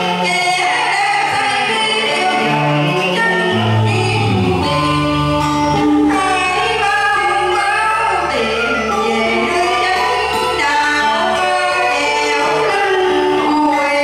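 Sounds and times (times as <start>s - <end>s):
instrumental accompaniment: 0.0s - 14.0s
person singing: 0.0s - 14.0s.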